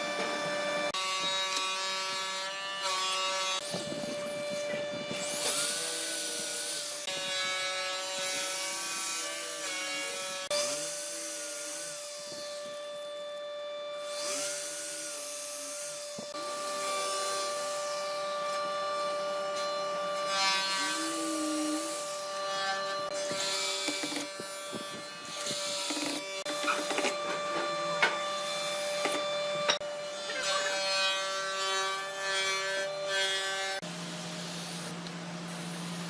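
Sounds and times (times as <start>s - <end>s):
power tool grinding wood: 0.0s - 35.0s.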